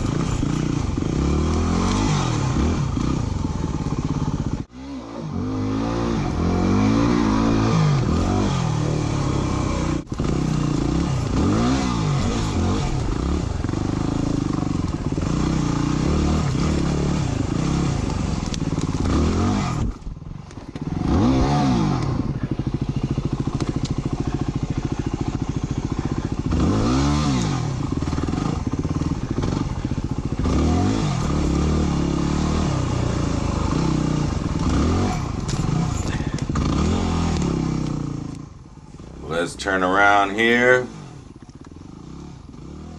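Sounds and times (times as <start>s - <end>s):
dirt bike engine revving: 0.0s - 20.0s, 20.8s - 42.9s.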